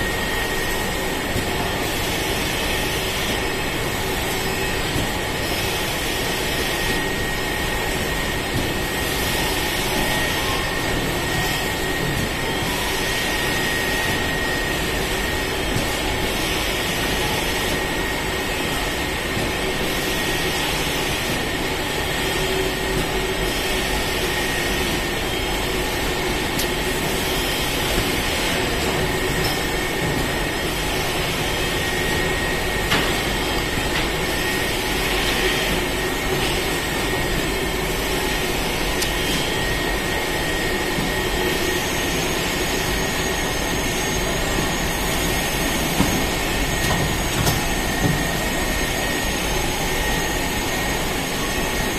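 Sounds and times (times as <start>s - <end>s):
cartoning machine running: 0.0s - 51.9s
high mechanical whine: 0.0s - 51.9s.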